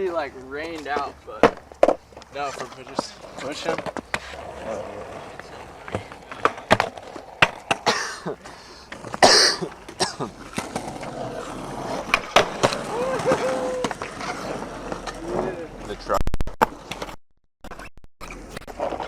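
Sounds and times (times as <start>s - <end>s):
skateboard clacking on ground: 0.0s - 15.9s
skateboard scraping: 0.0s - 16.1s, 16.7s - 19.0s
skateboard rolling on concrete: 0.0s - 17.2s, 18.2s - 19.0s.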